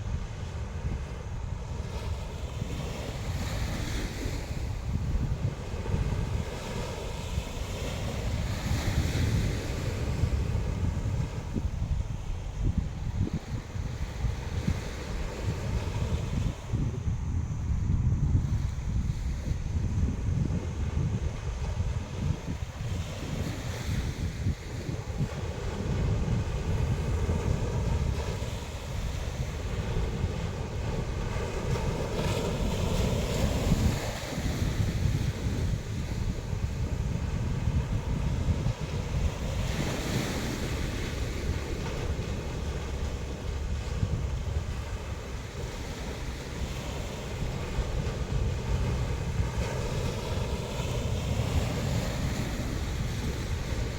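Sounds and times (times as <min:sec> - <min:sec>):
sea waves washing ashore: 0:00.0 - 0:53.9
wind buffeting microphone: 0:00.0 - 0:53.9.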